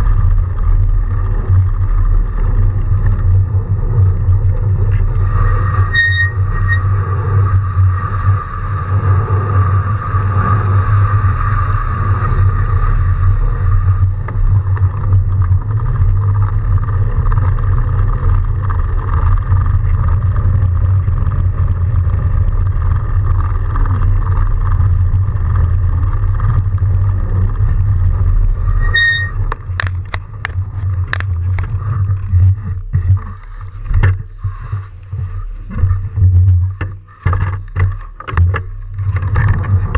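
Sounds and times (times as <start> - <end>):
wind and tyres rumble: 0.0 - 39.9.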